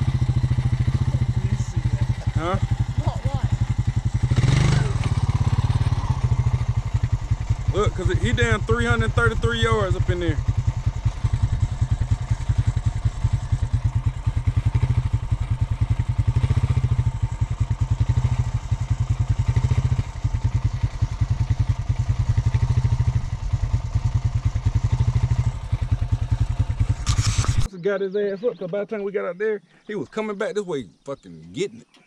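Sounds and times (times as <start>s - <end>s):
vehicle engine running: 0.0s - 27.7s.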